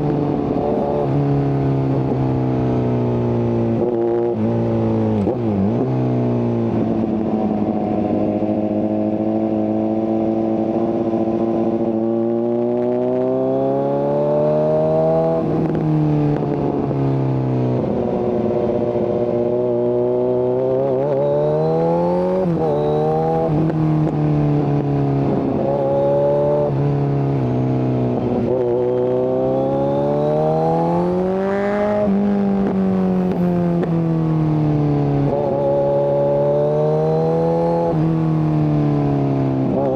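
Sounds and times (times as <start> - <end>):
motorcycle engine revving on road: 0.0 - 39.9.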